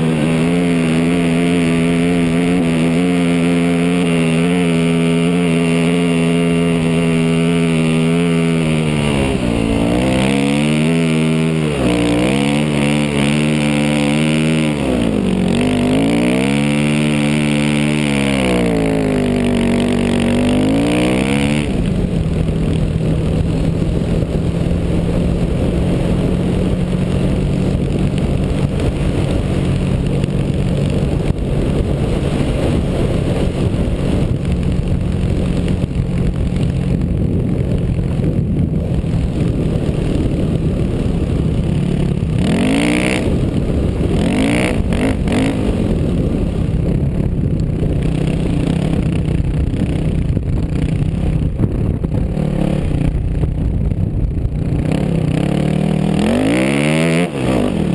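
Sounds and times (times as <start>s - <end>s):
motorcycle engine revving: 0.0s - 57.9s
wind noise on camera: 0.0s - 57.9s.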